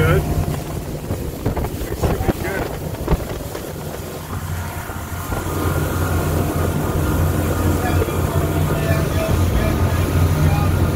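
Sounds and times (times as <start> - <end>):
boat wake rushing: 0.0 - 10.9
outboard motors droning: 0.0 - 10.9.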